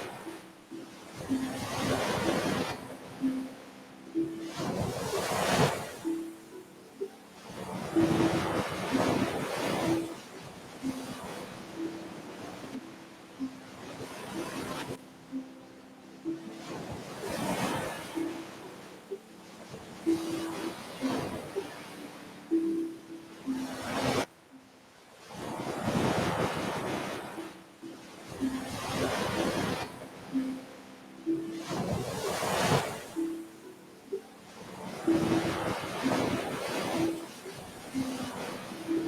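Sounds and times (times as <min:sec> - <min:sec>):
ocean surf washing onto beach: 0:00.0 - 0:39.0.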